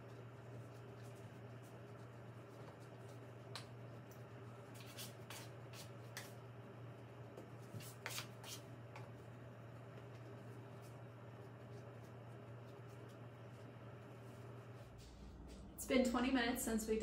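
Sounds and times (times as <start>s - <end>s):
hands rustling and tapping dough: 0.0s - 6.4s, 7.3s - 14.5s
steady low hum: 0.0s - 17.0s.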